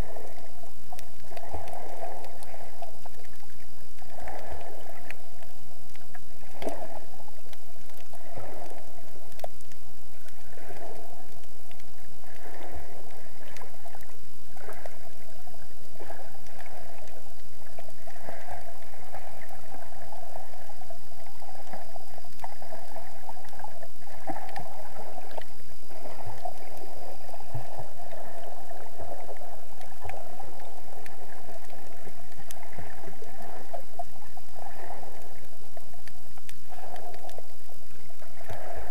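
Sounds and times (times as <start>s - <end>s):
faint high whine: 0.0s - 38.9s
underwater sloshing and gurgling: 0.0s - 38.9s.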